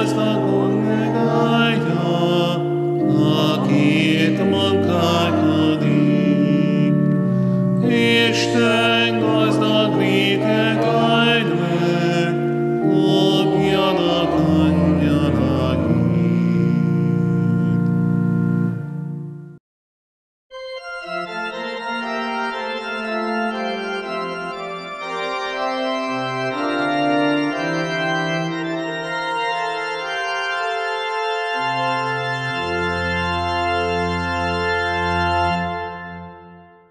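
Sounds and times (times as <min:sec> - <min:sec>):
church organ chords: 0:00.0 - 0:19.6, 0:20.5 - 0:36.9
deep organ bass notes: 0:00.0 - 0:19.6, 0:20.6 - 0:36.8.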